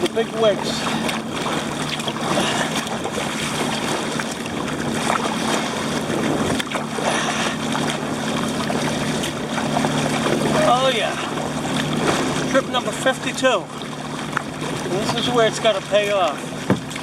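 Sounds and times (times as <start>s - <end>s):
low steady hum: 0.0s - 17.0s
water sloshing around kayak: 0.0s - 17.0s.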